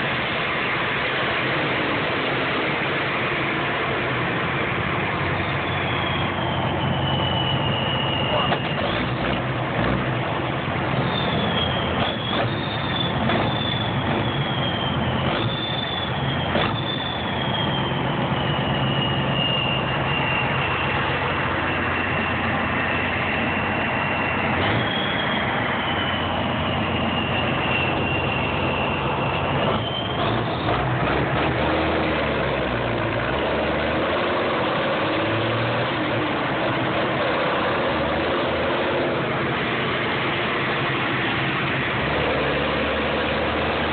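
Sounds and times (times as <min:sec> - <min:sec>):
truck engine running: 0:00.0 - 0:43.9
turbocharger whistle: 0:00.0 - 0:43.9.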